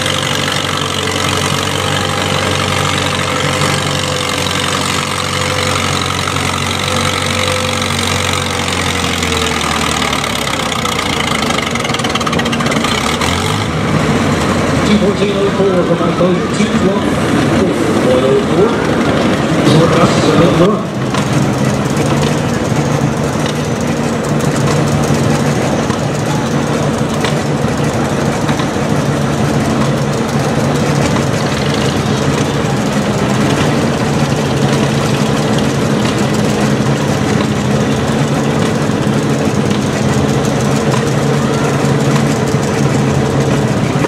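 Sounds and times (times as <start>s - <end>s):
tractor engine idling: 0.0s - 44.0s.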